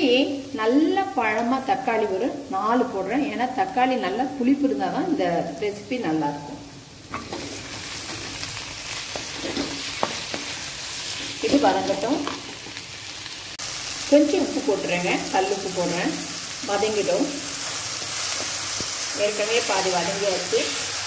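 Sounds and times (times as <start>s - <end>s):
onions and tomatoes sizzling in oil: 0.0s - 21.0s.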